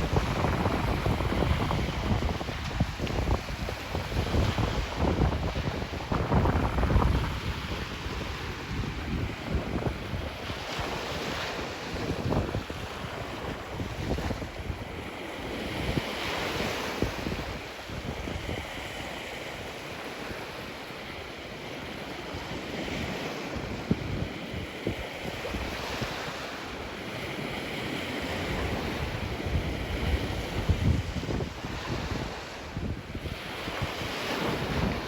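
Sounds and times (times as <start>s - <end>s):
surf breaking on beach: 0.0s - 20.6s, 23.0s - 35.0s
wind buffeting microphone: 0.0s - 21.2s, 21.8s - 35.0s.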